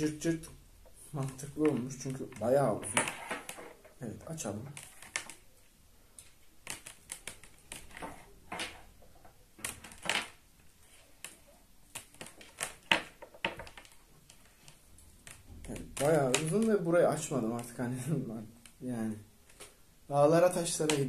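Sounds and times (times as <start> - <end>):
microphone cable clicks and rustles: 0.8 - 5.5, 6.2 - 18.8.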